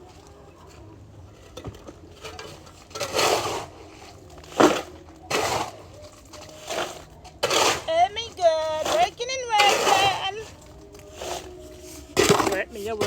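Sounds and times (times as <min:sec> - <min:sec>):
shovel scraping concrete mix: 0:00.0 - 0:13.0.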